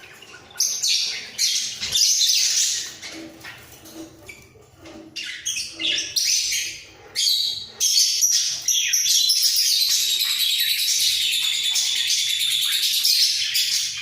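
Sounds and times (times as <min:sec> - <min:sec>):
budgerigars chattering: 0:00.0 - 0:14.0.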